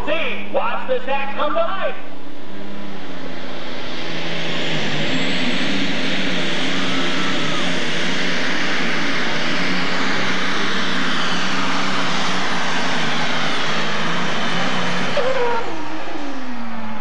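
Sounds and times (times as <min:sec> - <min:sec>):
tractor engine running flat out: 0:02.0 - 0:17.0
whine falling in pitch: 0:02.0 - 0:17.0.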